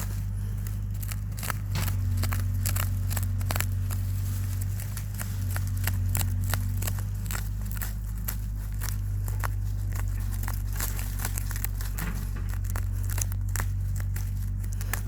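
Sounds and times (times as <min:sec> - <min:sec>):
branch scraping soil and leaves: 0:00.0 - 0:15.0
steady low hum: 0:00.0 - 0:15.0.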